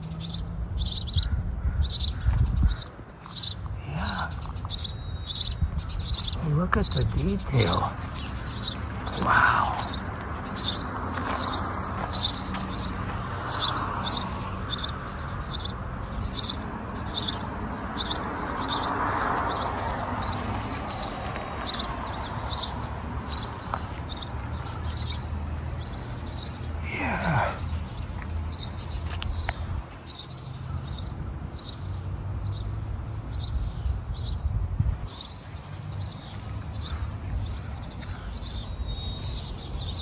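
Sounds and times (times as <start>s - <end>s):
songbird chirping: 0.0s - 34.5s, 35.1s - 40.0s.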